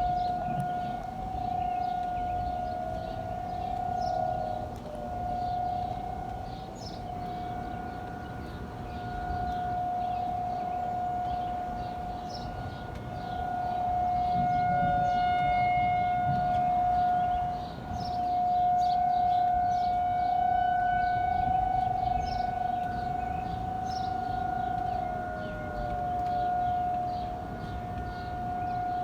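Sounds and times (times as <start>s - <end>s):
civil defense siren steady tone: 0.0s - 29.0s.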